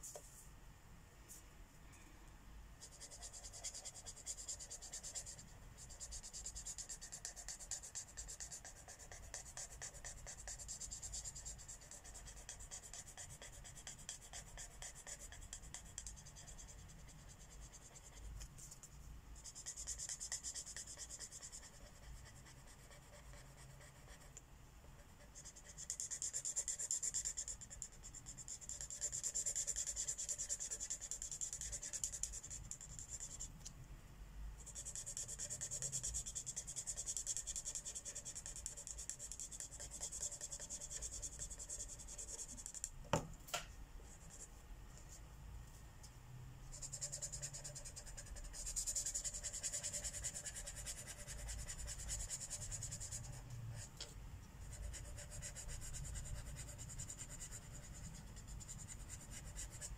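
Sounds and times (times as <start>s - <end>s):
marker scratching on paper: 2.8s - 33.5s, 34.6s - 42.9s, 46.7s - 53.9s, 54.6s - 59.9s.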